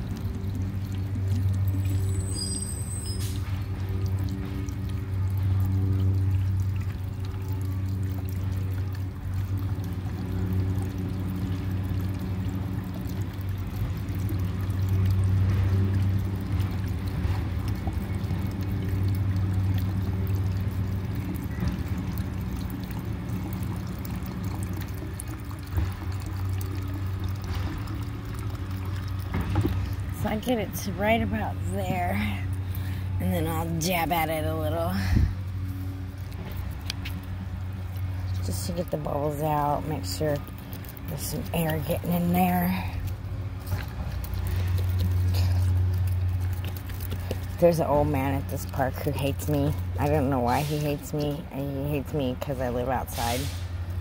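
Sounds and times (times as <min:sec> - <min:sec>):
low hum: 0:00.0 - 0:50.5
liquid pouring into a jar: 0:00.0 - 0:54.0.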